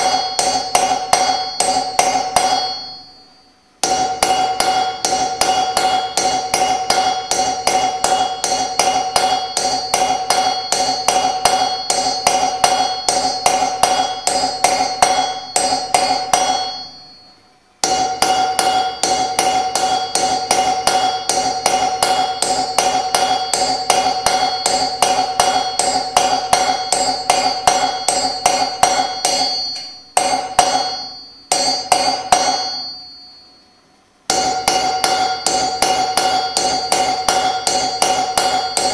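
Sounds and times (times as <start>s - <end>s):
hammer striking chisel on metal: 0.0s - 38.9s
metal ringing: 0.0s - 38.9s.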